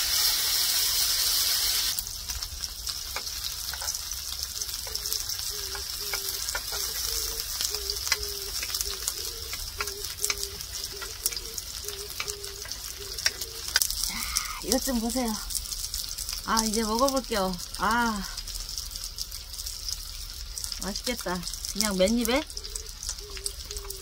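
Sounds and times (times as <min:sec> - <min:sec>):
fat crackling and spitting: 0:00.0 - 0:24.0
meat sizzling on griddle pan: 0:00.0 - 0:24.0.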